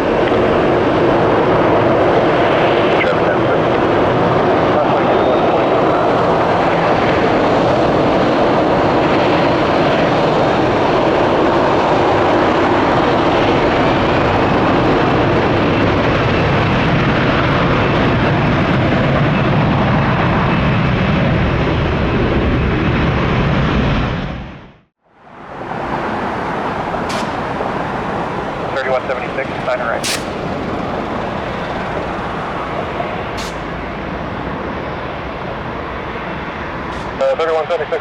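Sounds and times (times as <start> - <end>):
jet engines running loud: 0.0 - 38.0.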